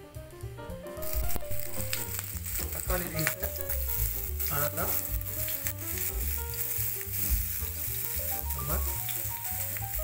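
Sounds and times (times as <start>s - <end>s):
background music: 0.0s - 10.0s
food sizzling in frying pan: 0.8s - 10.0s.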